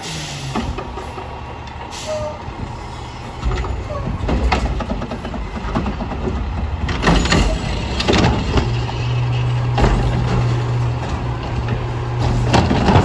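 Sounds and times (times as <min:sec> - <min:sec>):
garbage truck diesel engine running: 0:00.0 - 0:13.0
metal clanks and knocks: 0:02.5 - 0:13.0.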